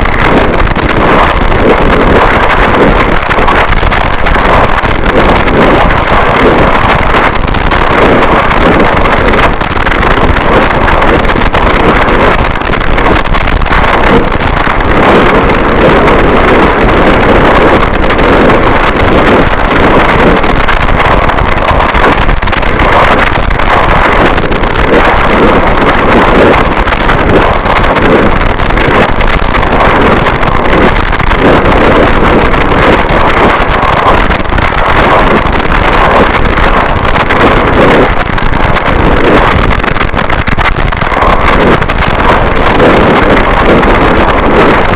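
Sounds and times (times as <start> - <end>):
distorted static noise wall: 0.0 - 44.9.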